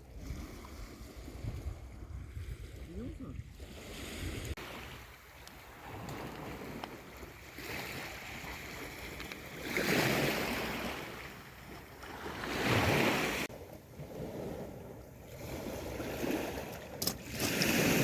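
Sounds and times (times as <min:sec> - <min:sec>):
small sea waves washing ashore: 0:00.0 - 0:18.0.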